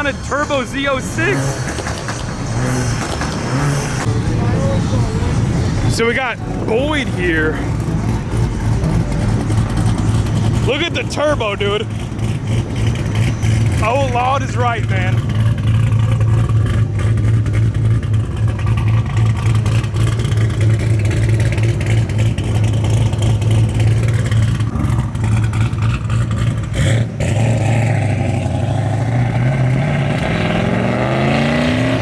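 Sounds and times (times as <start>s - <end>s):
car engine choppy idle and revving: 0.0s - 32.0s.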